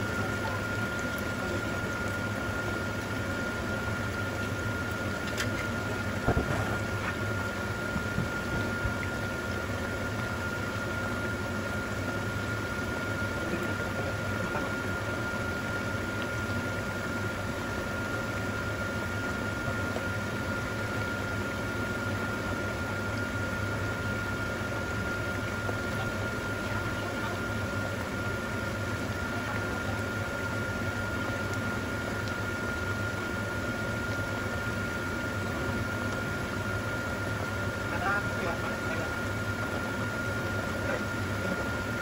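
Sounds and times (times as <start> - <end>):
liquid boiling in a pan: 0.0 - 42.0.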